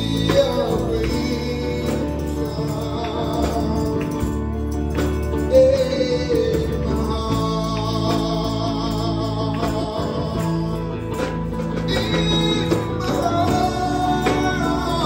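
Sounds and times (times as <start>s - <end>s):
guitar chords: 0.0s - 15.0s
person singing: 0.0s - 15.0s.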